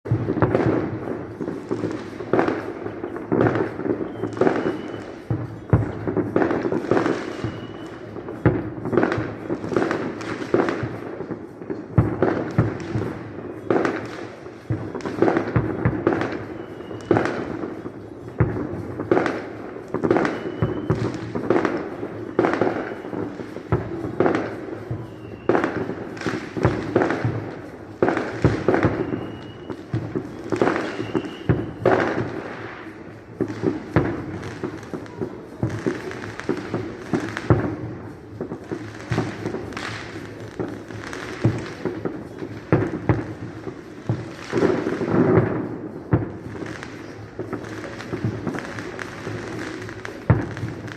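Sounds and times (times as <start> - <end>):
fireworks bursting: 0.0 - 50.9
firework whistles: 0.1 - 50.9.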